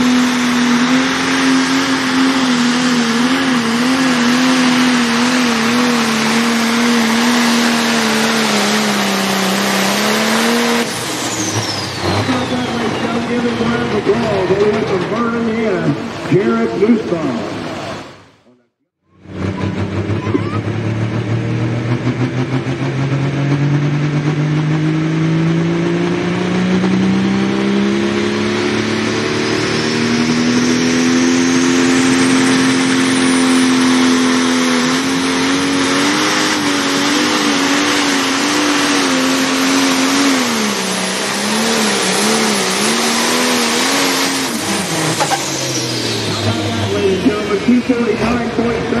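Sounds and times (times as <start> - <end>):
diesel tractor engine at full power: 0.0 - 49.0.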